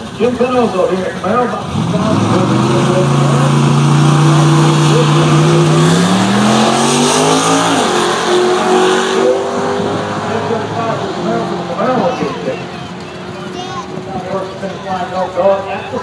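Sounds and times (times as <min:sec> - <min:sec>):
drag racing car engines revving: 0:00.0 - 0:16.0.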